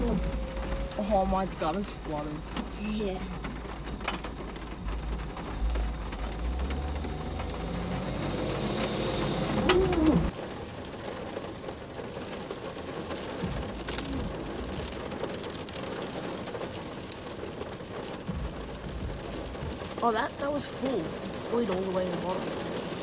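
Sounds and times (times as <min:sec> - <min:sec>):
rain on car roof: 0:00.0 - 0:23.0.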